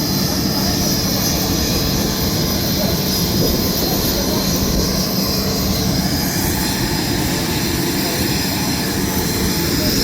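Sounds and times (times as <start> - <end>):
aircraft engine hum and whine: 0.0 - 10.0.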